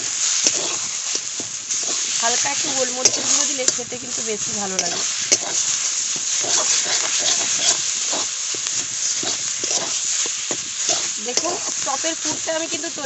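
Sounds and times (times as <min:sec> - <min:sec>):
metal spatula scraping a pan: 0:00.0 - 0:13.0
oily food sizzling: 0:00.0 - 0:13.0.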